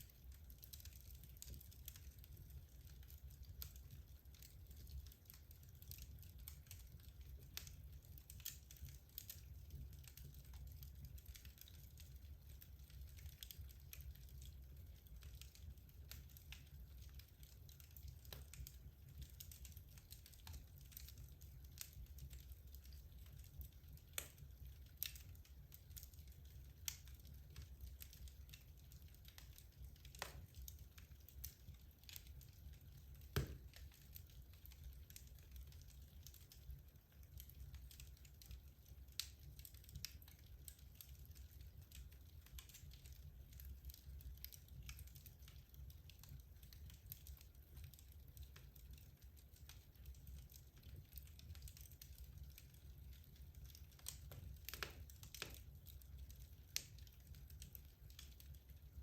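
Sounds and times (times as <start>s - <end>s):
logs crackling and popping: 0.0s - 59.0s.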